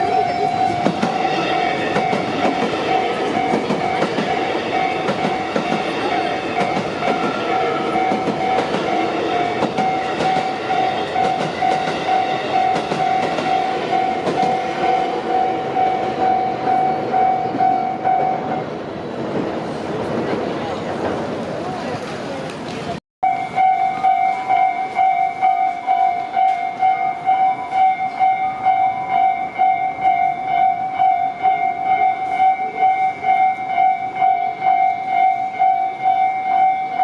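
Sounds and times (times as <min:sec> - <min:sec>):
level crossing warning bell: 0:00.0 - 0:18.6, 0:23.2 - 0:37.0
train running past: 0:00.0 - 0:37.0.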